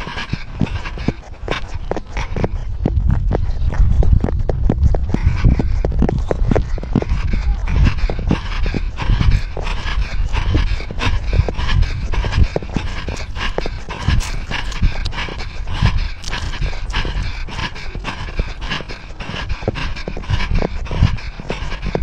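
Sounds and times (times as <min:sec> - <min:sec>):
camera thumps and jostling: 0:00.0 - 0:22.0
dog panting: 0:00.0 - 0:22.0.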